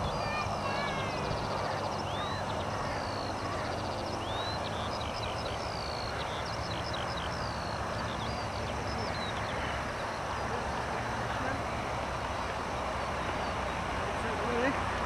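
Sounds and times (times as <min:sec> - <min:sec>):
small birds singing: 0:00.0 - 0:15.0.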